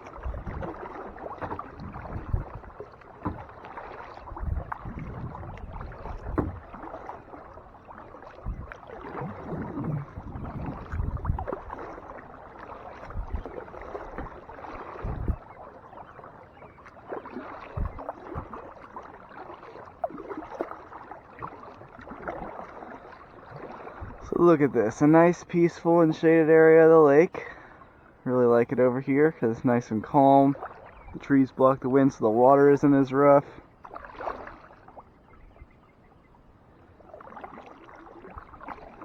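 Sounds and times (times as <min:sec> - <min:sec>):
paddle splashing in water: 0:00.0 - 0:39.0
water sloshing along hull: 0:00.0 - 0:39.0.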